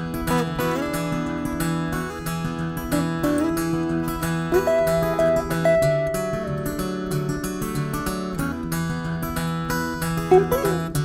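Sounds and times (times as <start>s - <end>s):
fingerpicked acoustic guitars: 0.0s - 11.0s.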